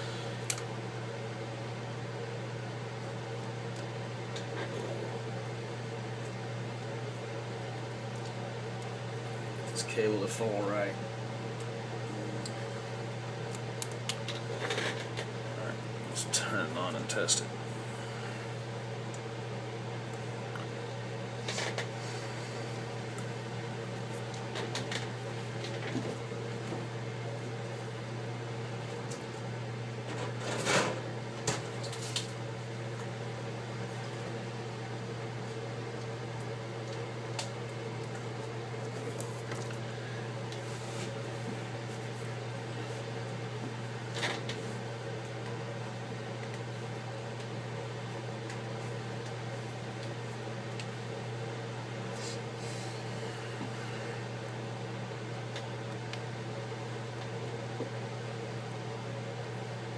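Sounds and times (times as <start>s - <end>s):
electrical fan hum: 0.0s - 59.9s.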